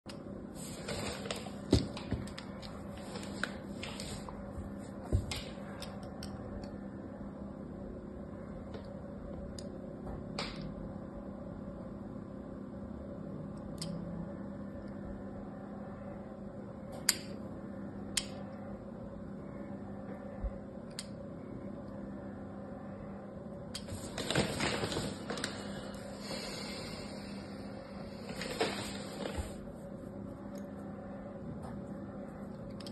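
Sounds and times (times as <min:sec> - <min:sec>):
low hum: 0:00.1 - 0:32.9.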